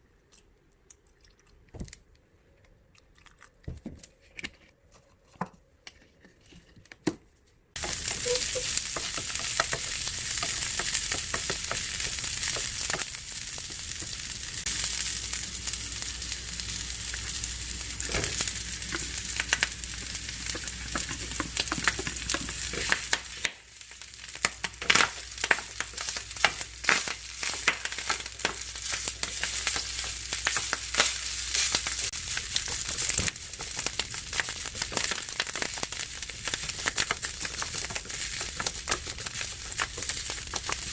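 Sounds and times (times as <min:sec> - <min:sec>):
food sizzling in a pan: 0:07.8 - 0:40.9.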